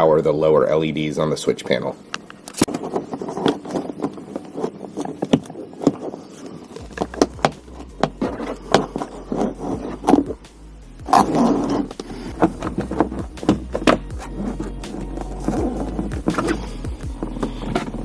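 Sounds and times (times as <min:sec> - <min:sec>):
low steady hum: 0:00.0 - 0:18.0
rustling and scraping of wiring: 0:01.4 - 0:18.0.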